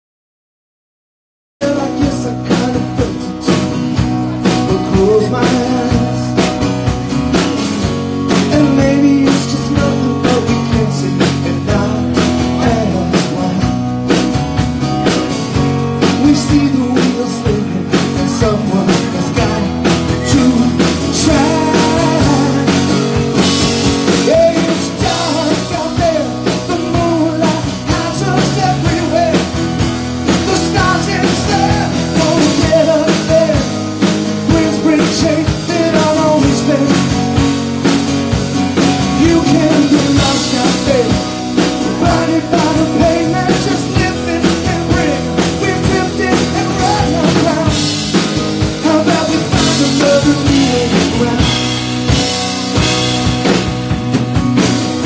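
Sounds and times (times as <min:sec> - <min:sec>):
man singing lead: 0:01.6 - 0:06.7, 0:08.2 - 0:14.2, 0:15.8 - 0:37.9, 0:38.8 - 0:52.3
drum kit steady beat: 0:01.6 - 0:55.0
strummed acoustic guitar: 0:01.6 - 0:55.0.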